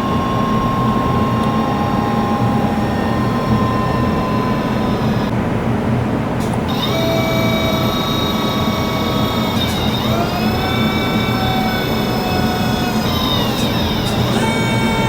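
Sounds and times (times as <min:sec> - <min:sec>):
electric pump motor whining: 0:00.0 - 0:05.4, 0:06.4 - 0:15.0.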